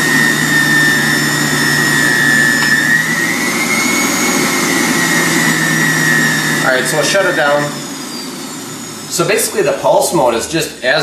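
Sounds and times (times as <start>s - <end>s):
juicer motor whining: 0.0s - 10.7s.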